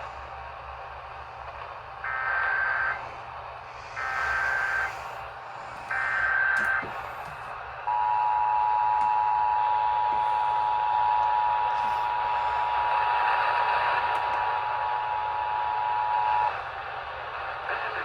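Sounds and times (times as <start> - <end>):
radio background hiss: 0.1 - 7.9, 9.8 - 18.0.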